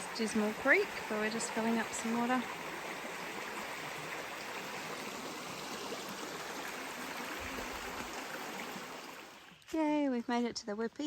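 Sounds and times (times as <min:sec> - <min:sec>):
creek water flowing over rocks: 0:00.0 - 0:09.7.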